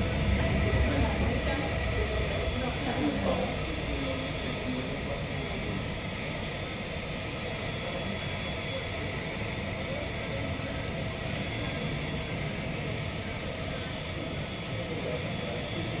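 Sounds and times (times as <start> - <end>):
jet turbine rushing: 0.0 - 16.0.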